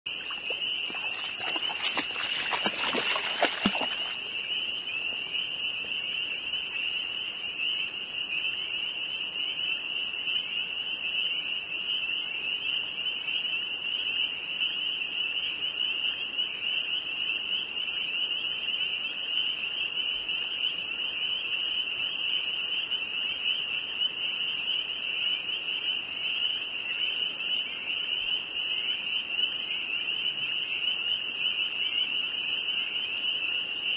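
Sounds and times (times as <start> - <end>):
chorus of peeping frogs: 0.1 - 33.9.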